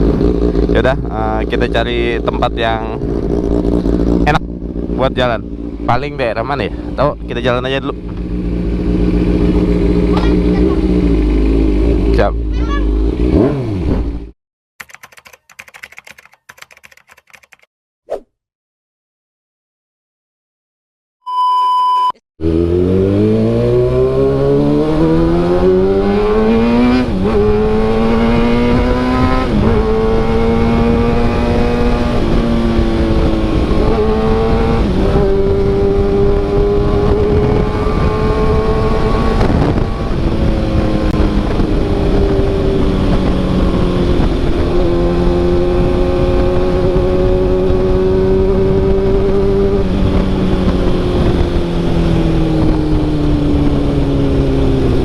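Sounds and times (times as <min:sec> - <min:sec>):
motorcycle engine revving: 0:00.0 - 0:14.4, 0:22.4 - 0:55.0.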